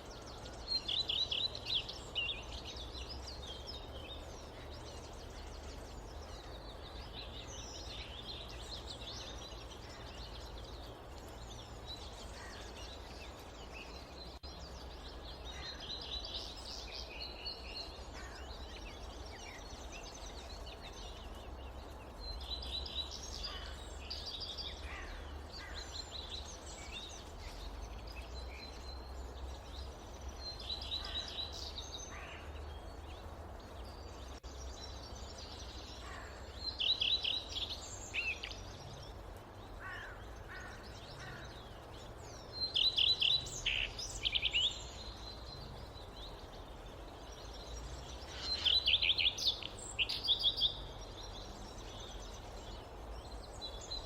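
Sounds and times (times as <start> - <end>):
low rumble of wind: 0.0 - 54.0
small birds chirping: 0.0 - 54.0.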